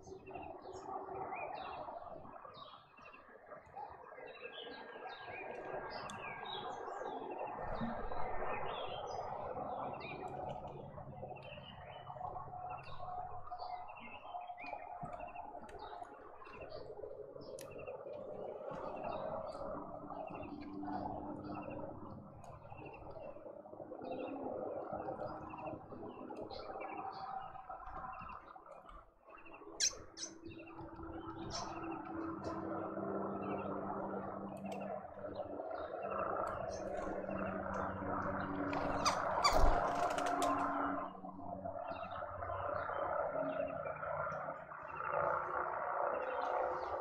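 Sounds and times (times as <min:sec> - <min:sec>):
small birds chirping: 0:00.0 - 0:47.0
steady background noise: 0:00.0 - 0:47.0.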